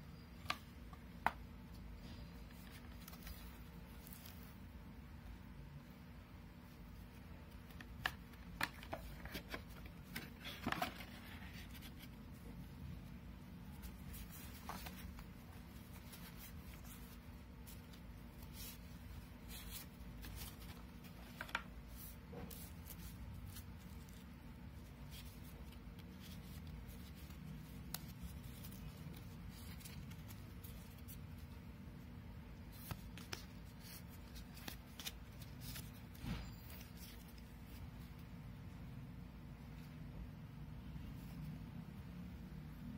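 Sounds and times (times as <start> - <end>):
cards and cardboard being handled: 0.2 - 5.3, 6.3 - 38.8.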